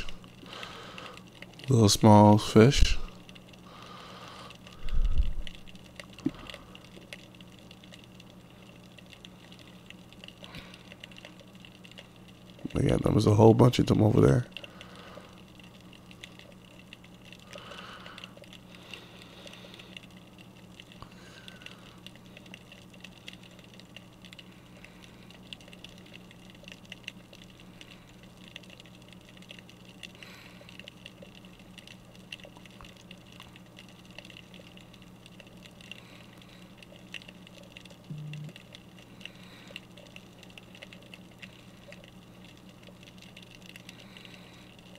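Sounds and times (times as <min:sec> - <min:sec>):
dense crackle of small clicks: 0:00.0 - 0:44.9
low steady underwater hum: 0:00.0 - 0:44.9.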